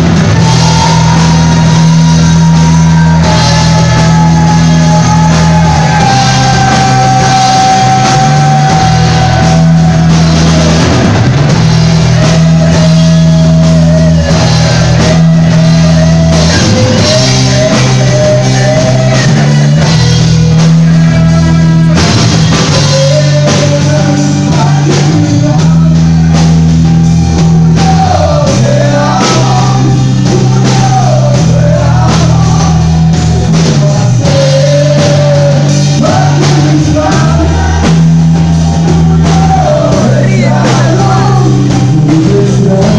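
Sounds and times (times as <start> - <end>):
drum kit: 0.0 - 42.9
electric guitars: 0.0 - 42.9
man singing: 0.0 - 42.9.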